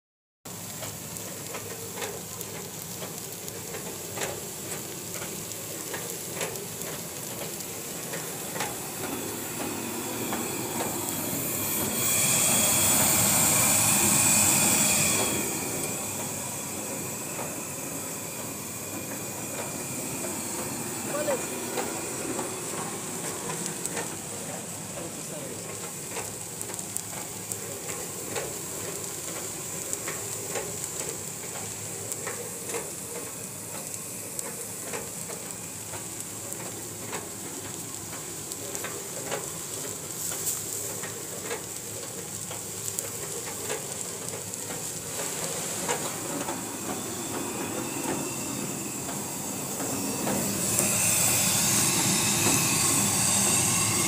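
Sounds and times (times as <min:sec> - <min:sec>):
machine hissing: 0:00.5 - 0:54.0
rice grains crackling in drum: 0:00.5 - 0:54.0.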